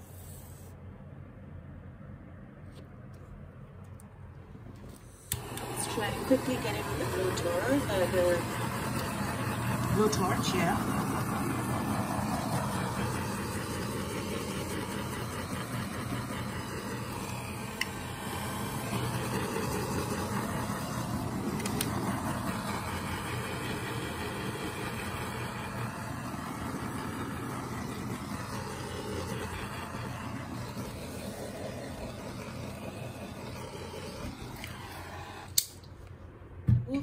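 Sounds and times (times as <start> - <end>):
blowtorch flame hissing: 0.0 - 0.8, 4.7 - 35.9.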